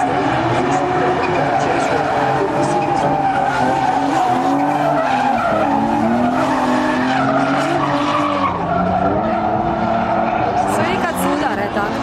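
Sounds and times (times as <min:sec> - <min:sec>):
car engines revving: 0:00.0 - 0:12.0
tyres screeching: 0:01.0 - 0:11.4.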